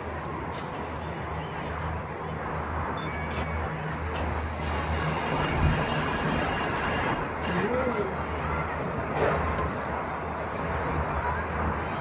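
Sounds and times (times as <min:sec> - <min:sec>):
cable car gondola humming: 0:01.0 - 0:12.0.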